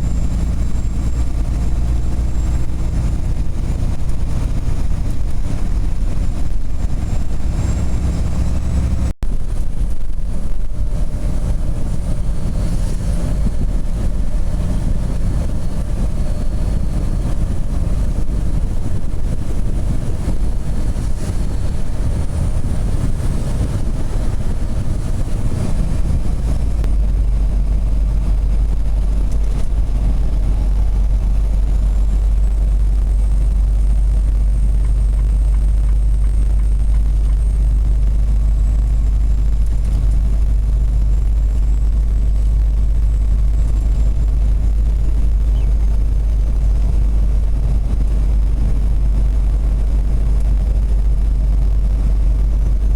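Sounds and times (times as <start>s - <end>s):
diesel engine droning: 0.0s - 52.9s
tyre and road noise: 0.0s - 52.9s.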